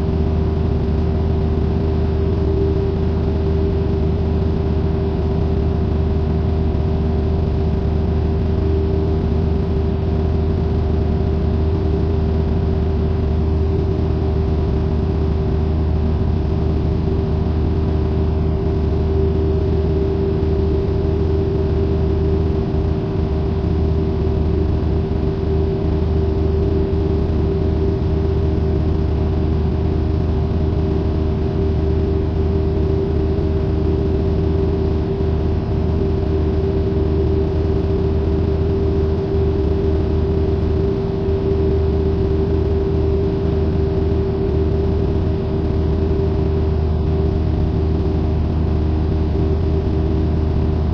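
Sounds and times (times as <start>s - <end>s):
propeller plane engine drone: 0.0s - 50.9s.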